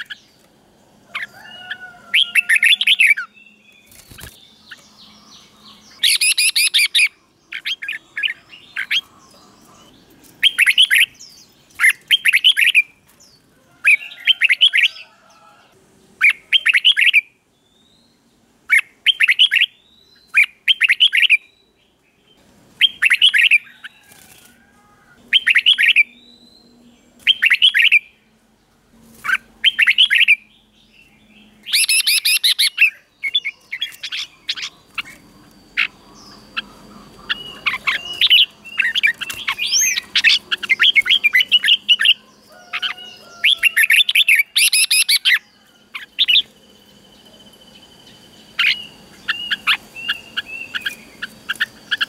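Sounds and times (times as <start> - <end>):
bird singing and chattering: 2.2 - 15.0, 16.2 - 22.2, 22.8 - 24.0, 25.3 - 28.2, 29.2 - 52.0.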